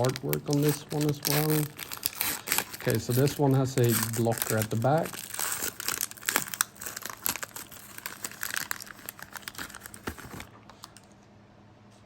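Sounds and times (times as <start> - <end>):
foil wrapper crinkling: 0.0 - 11.1.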